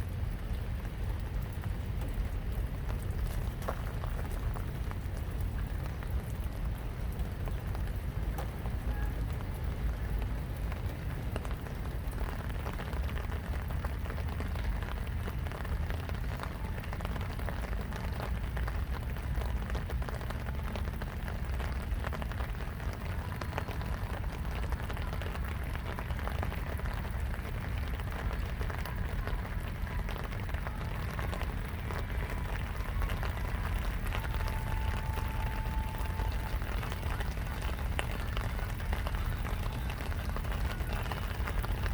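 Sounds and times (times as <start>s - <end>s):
rain patter: 0.0s - 41.9s.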